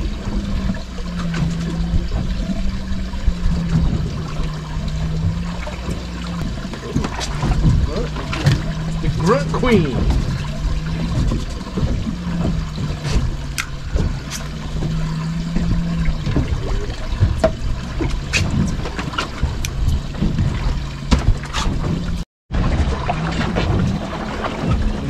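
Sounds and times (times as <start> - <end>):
low steady hum: 0.0 - 25.0
water lapping against hull: 0.0 - 25.0.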